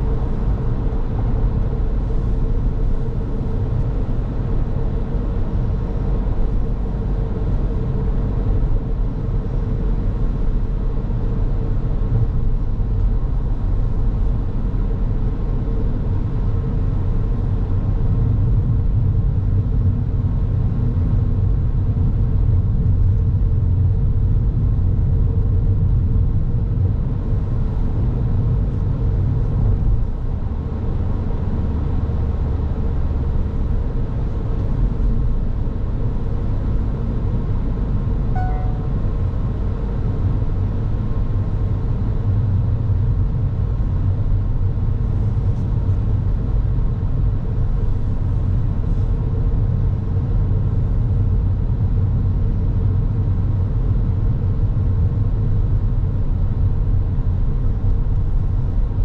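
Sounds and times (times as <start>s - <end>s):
car road and engine rumble: 0.0s - 59.0s
faint constant hum: 0.0s - 59.0s.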